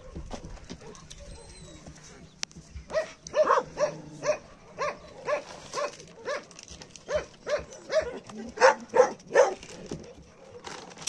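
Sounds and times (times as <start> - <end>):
dog barking: 0.0 - 1.7, 2.9 - 10.7.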